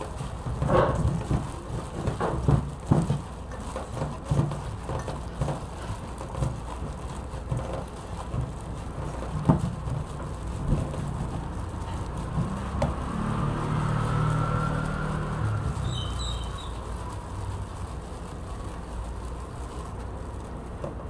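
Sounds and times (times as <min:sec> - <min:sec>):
plastic glove crinkling: 0:00.0 - 0:21.0
rice squishing: 0:00.0 - 0:21.0.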